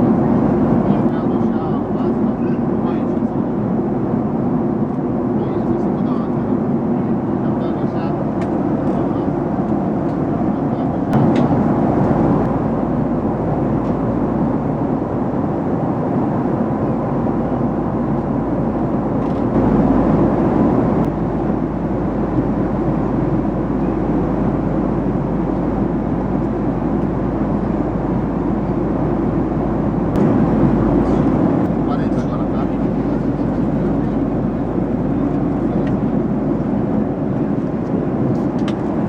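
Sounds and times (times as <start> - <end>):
airliner cabin engine rush: 0.0 - 39.0
deep rumble: 0.0 - 39.0.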